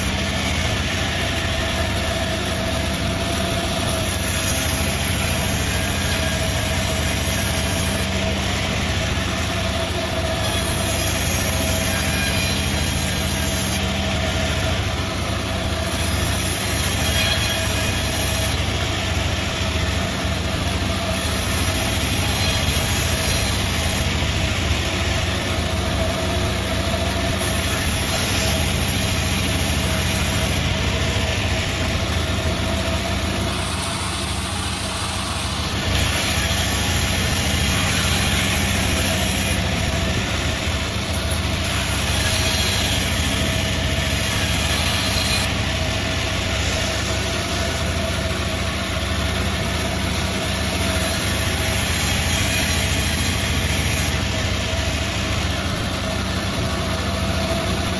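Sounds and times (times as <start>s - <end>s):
sawmill running: 0.0s - 57.9s.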